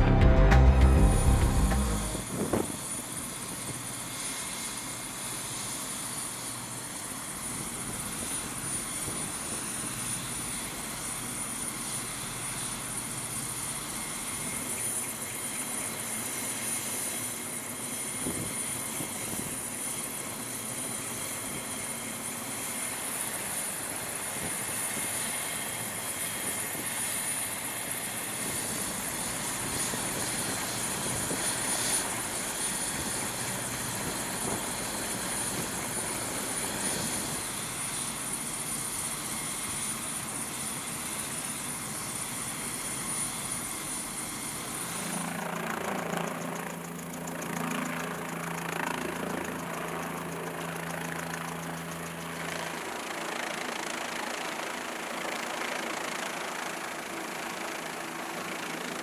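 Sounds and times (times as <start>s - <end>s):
helicopter turbine and rotor noise: 0.0s - 59.0s.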